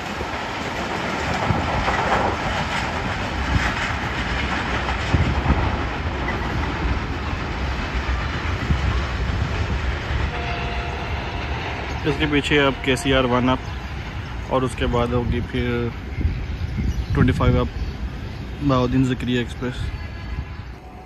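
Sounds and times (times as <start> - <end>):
wheels clacking over rail joints: 0.0 - 19.6
passenger train passing: 0.0 - 21.0.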